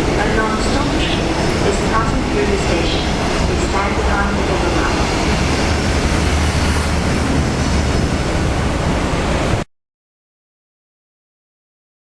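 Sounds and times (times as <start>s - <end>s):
train rushing past with rumble: 0.0s - 9.7s
wind buffeting microphone: 0.0s - 9.7s.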